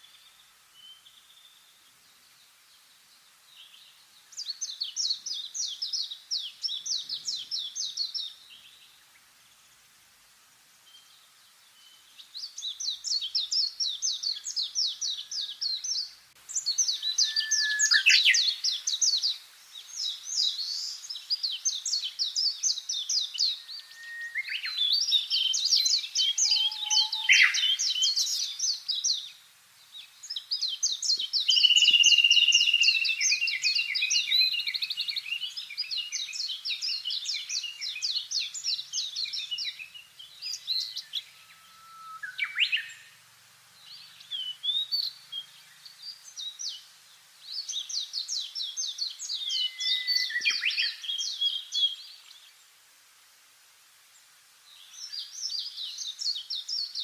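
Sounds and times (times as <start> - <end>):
songbirds singing trills: 0.0 - 9.6, 10.8 - 52.8, 54.1 - 57.0.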